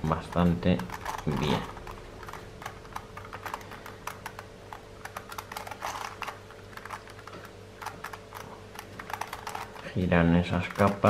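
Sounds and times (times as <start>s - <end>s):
plastic puzzle clicking: 0.2s - 9.9s, 10.5s - 11.0s
plastic scraping turn: 0.2s - 11.0s.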